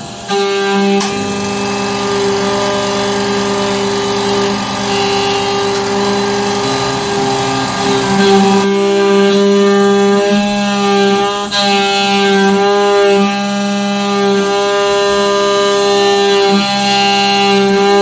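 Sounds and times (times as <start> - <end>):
mill spindle whine: 0.0 - 18.0.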